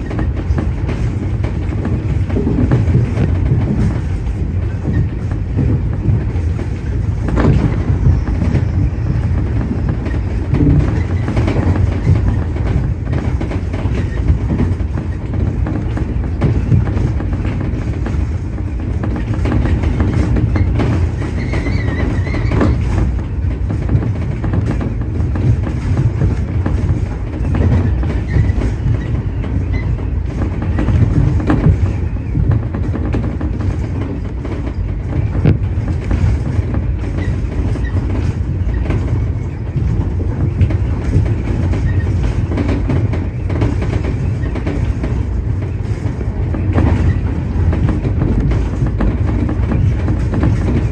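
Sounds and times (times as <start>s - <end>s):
train rumble: 0.0s - 50.9s
wheel clicks over rail joints: 0.0s - 50.9s.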